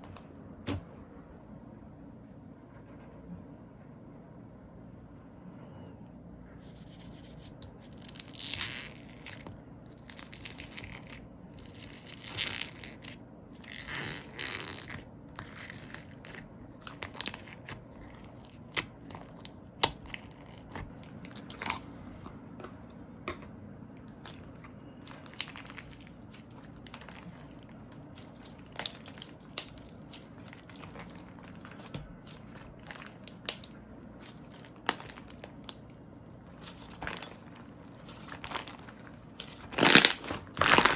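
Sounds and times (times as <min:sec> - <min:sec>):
slime squishing: 0:00.0 - 0:00.9, 0:06.6 - 0:23.4, 0:24.0 - 0:40.9.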